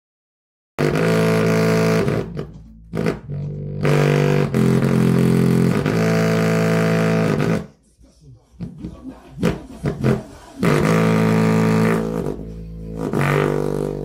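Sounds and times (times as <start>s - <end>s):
bass-heavy music through speaker: 0.8s - 14.0s.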